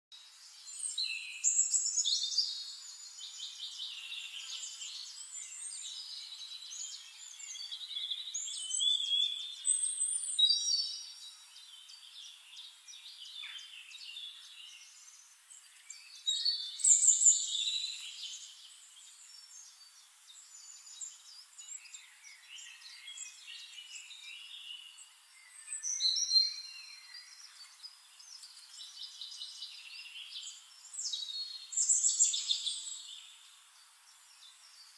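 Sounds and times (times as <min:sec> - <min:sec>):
birds chirping and trilling: 0:00.2 - 0:34.9.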